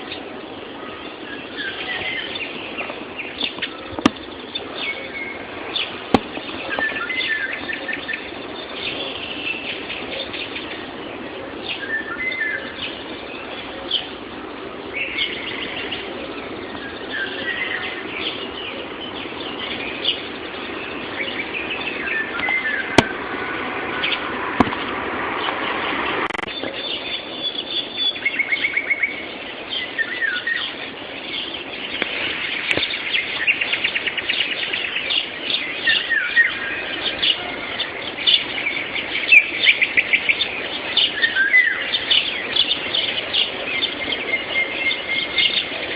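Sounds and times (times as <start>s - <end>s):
songbirds singing and calling: 0.0s - 45.9s.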